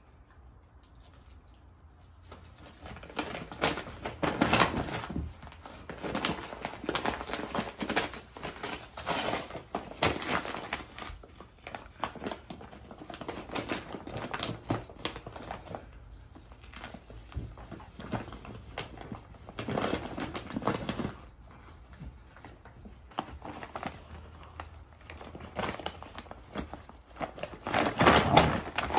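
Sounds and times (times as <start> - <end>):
paper crinkling and rustling: 2.2 - 28.9.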